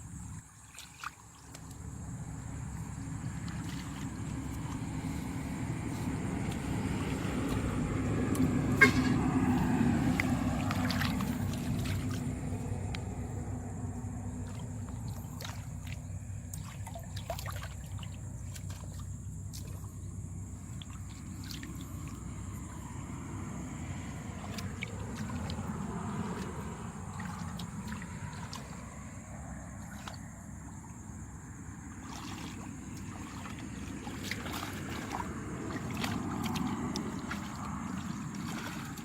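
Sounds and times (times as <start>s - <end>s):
engine passing by: 1.6s - 39.0s.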